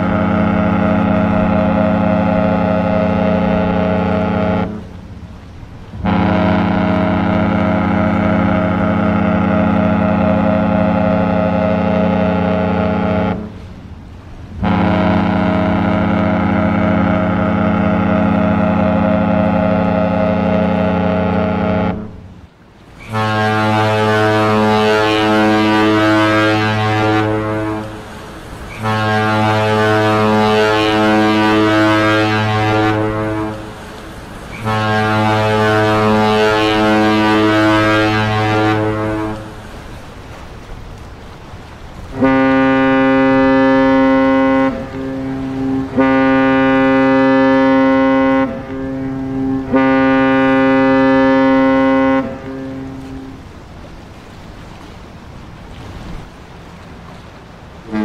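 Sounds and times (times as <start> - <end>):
higher ship horn blasts: 0.0 - 40.7, 42.0 - 58.0
deep ship horn blasts: 0.0 - 58.0.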